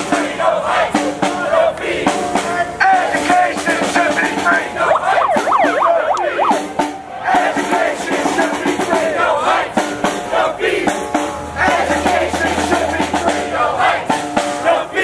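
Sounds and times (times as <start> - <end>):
crowd chanting and shouting: 0.0 - 15.0
drums beating: 0.0 - 15.0.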